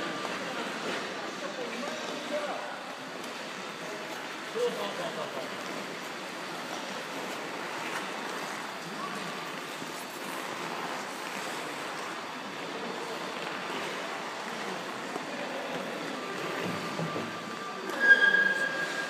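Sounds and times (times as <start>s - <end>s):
indoor rink background noise: 0.0s - 19.0s
ice skates scraping ice: 3.2s - 19.0s.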